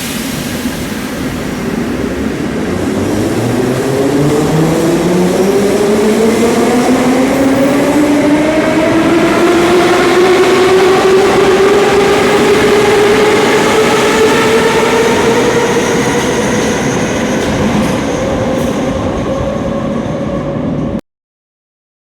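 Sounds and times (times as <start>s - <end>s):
train running rumble: 0.0s - 21.0s
train traction drive whine: 0.0s - 21.0s.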